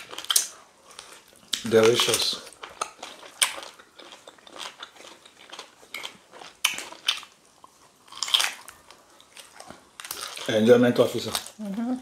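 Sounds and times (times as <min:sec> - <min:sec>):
wet eating smacks and chews: 0:00.0 - 0:10.5.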